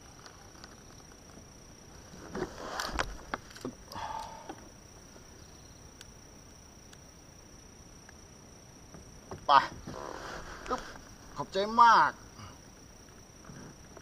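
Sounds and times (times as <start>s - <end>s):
high insect whine: 0.0s - 14.0s.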